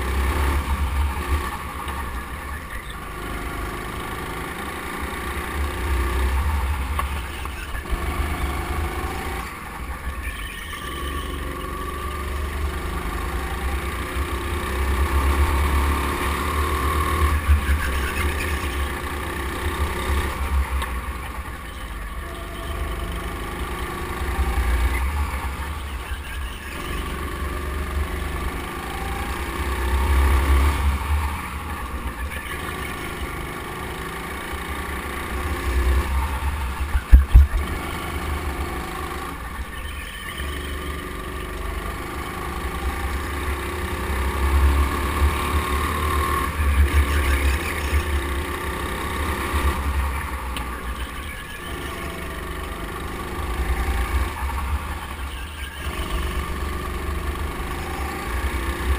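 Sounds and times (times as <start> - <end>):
go-kart motor running: 0.0 - 58.9.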